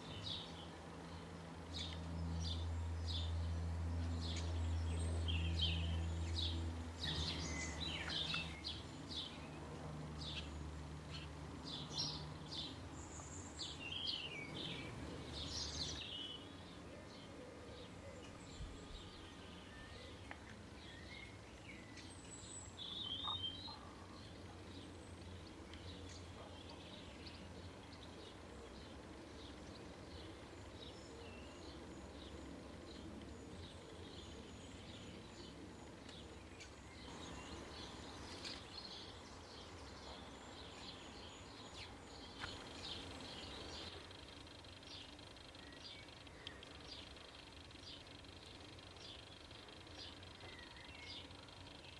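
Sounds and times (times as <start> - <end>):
low outdoor rumble: 0.0 - 51.9
small birds chirping: 0.0 - 51.9.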